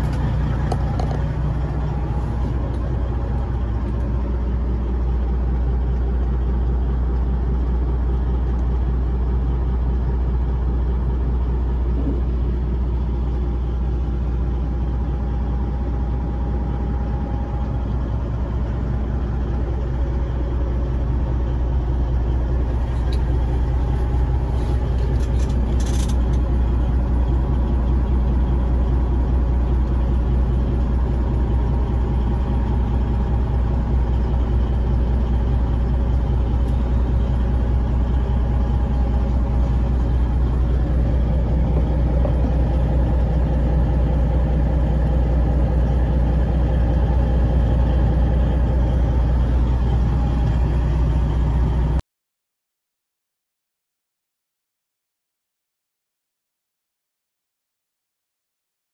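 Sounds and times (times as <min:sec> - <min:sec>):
diesel truck engine idling: 0:00.0 - 0:52.0.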